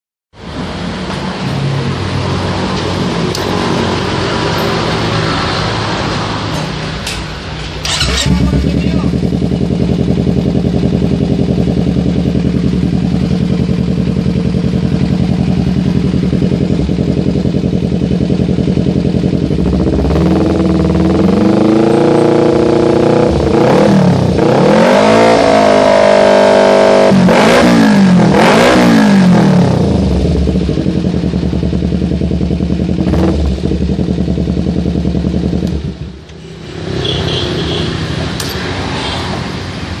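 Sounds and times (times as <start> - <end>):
motorcycle engine idling and revving: 0.4 - 40.0.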